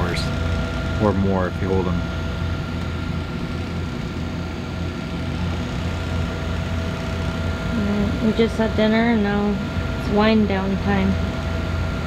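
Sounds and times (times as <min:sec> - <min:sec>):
diesel engine drone: 0:00.0 - 0:12.0
faint steady whine: 0:00.0 - 0:12.0.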